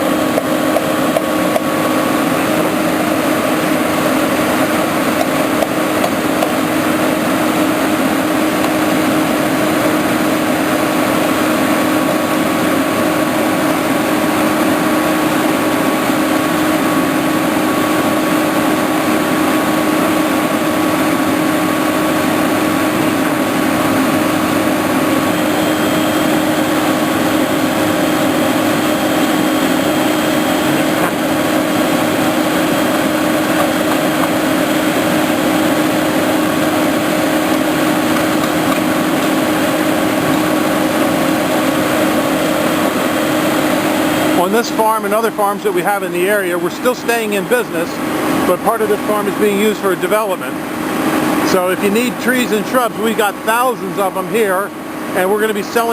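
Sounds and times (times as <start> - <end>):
engine running steadily: 0.0 - 55.9.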